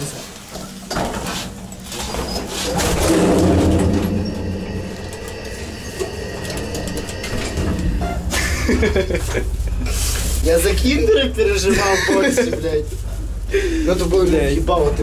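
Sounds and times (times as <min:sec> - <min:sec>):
lift cabin rumble and hum: 0:00.0 - 0:15.0
thin steady whine: 0:00.0 - 0:15.0.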